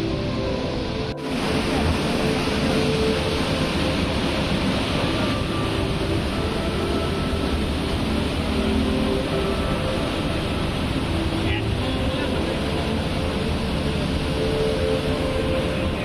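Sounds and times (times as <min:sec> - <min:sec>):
water rushing through sluice gate: 0:00.0 - 0:16.0.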